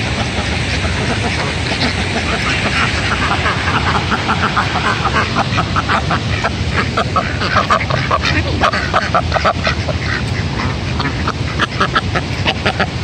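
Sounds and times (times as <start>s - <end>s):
ducks quacking: 0.0s - 13.0s
floodwater rushing: 0.0s - 13.0s.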